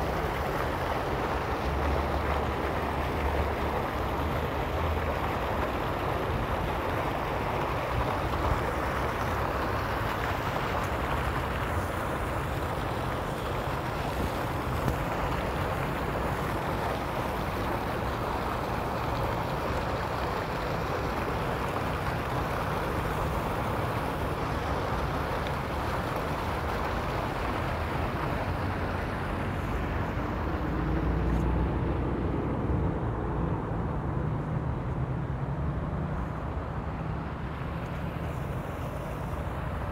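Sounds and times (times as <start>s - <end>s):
fountain jets splashing into pool: 0.0s - 39.9s
low rumble of street traffic: 0.0s - 39.9s.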